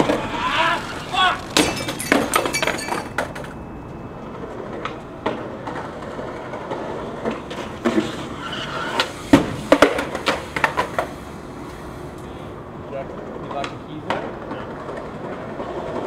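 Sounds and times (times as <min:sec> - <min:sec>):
skateboard clacks and knocks: 0:00.0 - 0:11.2, 0:13.2 - 0:16.0
skateboard wheels rolling on concrete: 0:00.0 - 0:16.0.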